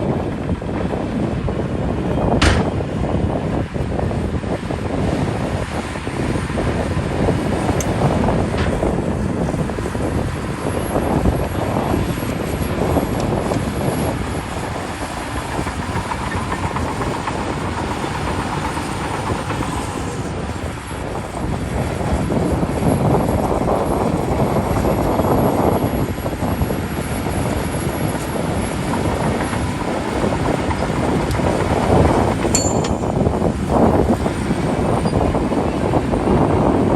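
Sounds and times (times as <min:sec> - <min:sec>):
bulldozer diesel engine working: 0:00.0 - 0:36.8.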